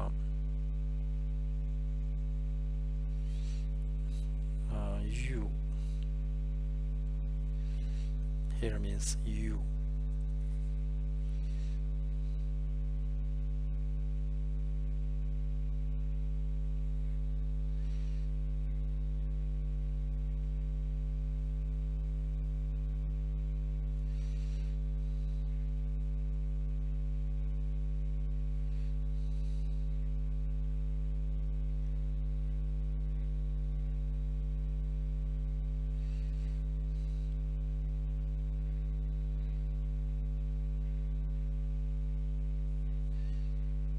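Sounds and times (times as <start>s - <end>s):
electrical mains hum: 0.0s - 43.9s.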